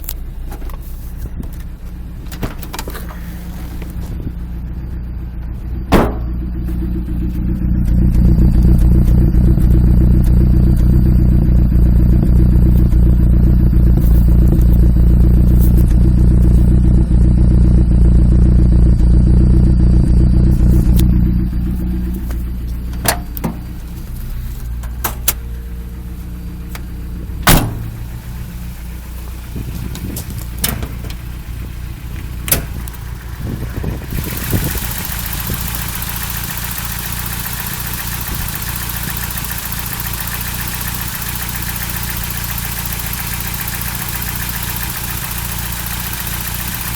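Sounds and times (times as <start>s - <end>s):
engine rough idle: 0.0s - 46.9s.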